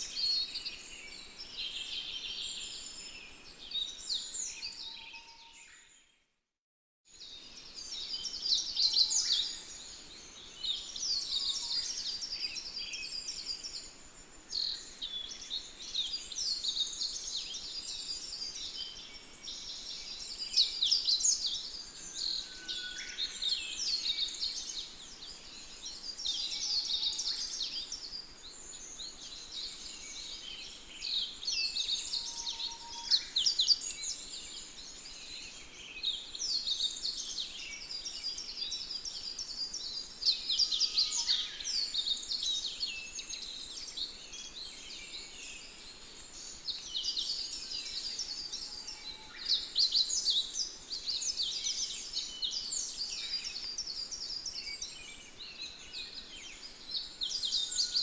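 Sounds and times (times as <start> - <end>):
small birds chirping: 7.1 - 58.0.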